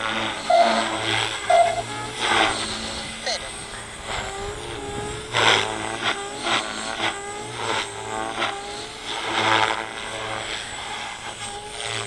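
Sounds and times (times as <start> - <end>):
low hum: 0.0 - 12.0
rc helicopter motor whine: 0.0 - 12.0.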